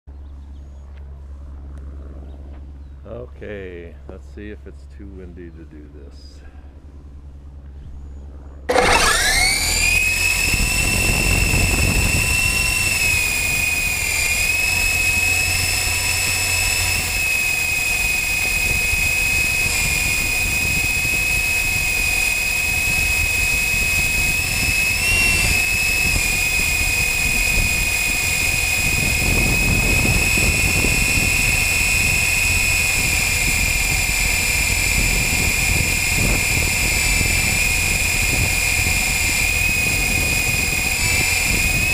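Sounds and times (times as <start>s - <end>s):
rc helicopter whine: 0.1s - 4.6s, 5.4s - 41.9s.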